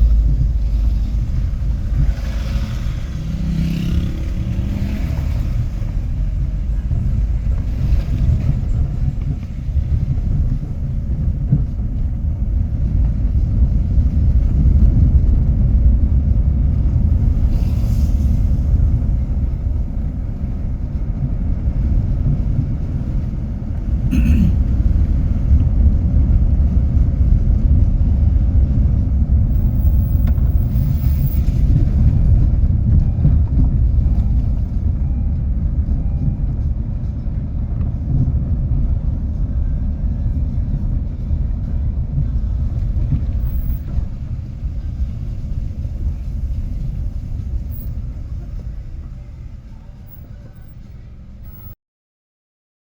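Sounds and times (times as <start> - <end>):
loud low rumble: 0.0 - 51.8.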